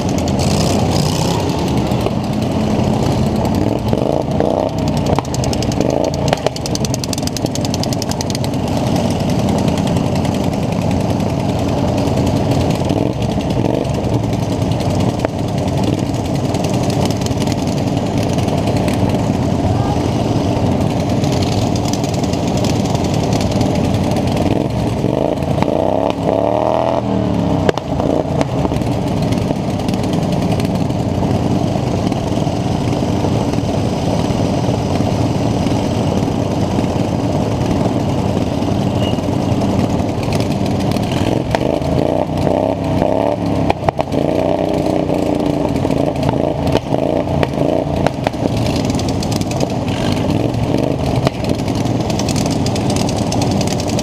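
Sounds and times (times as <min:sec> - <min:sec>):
lawn mower engines revving: 0:00.0 - 0:54.0.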